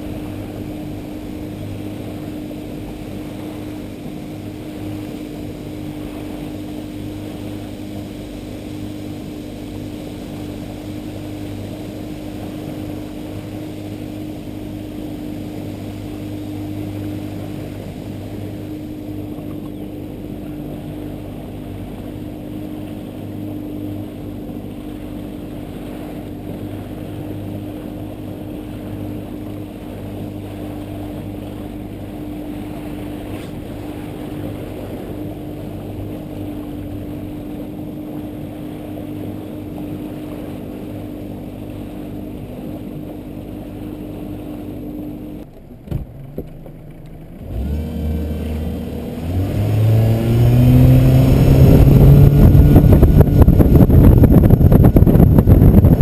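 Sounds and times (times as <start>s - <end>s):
outboard motor running: 0.0s - 56.0s
water and wind rushing: 0.0s - 56.0s.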